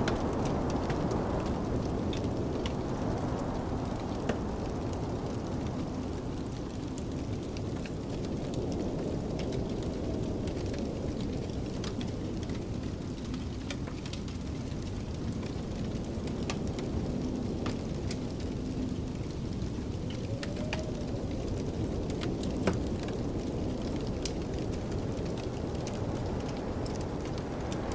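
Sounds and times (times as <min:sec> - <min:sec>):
howling snowstorm wind: 0:00.0 - 0:27.9
wood fire crackling and popping: 0:00.0 - 0:27.9.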